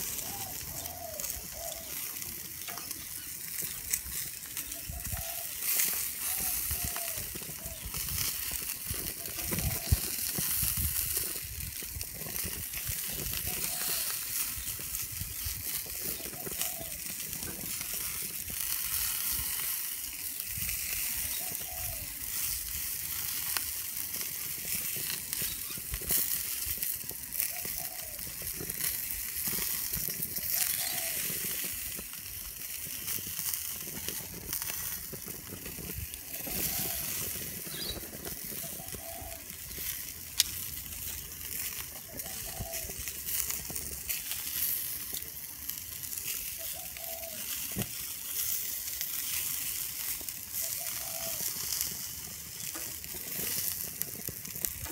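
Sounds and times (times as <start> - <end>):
sausages sizzling on a grill: 0.0 - 54.9.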